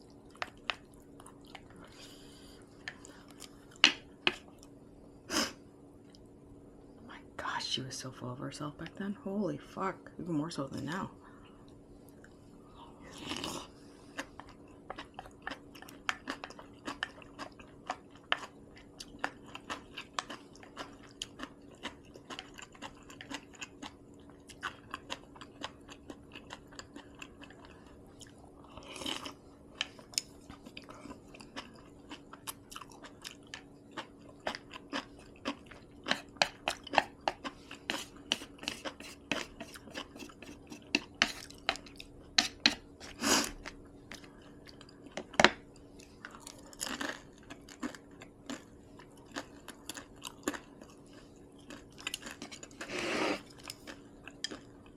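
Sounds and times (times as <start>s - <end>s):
close-miked chewing: 0.0s - 4.8s, 13.0s - 54.9s.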